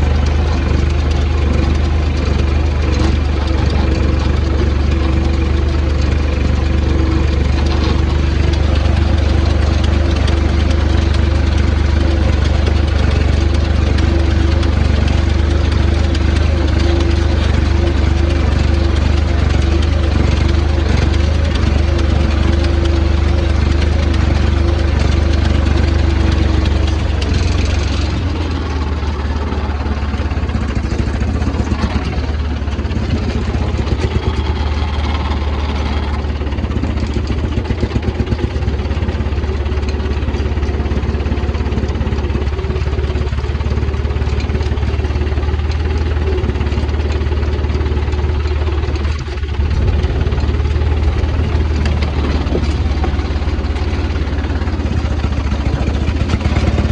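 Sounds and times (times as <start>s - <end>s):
machinery rattling: 0.0s - 56.9s
tractor engine running: 0.0s - 56.9s.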